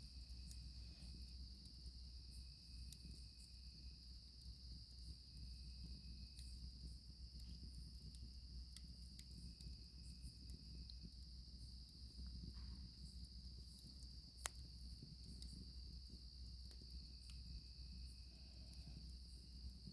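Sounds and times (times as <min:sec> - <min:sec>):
campfire crackling: 0:00.0 - 0:19.9
crickets trilling: 0:00.0 - 0:19.9.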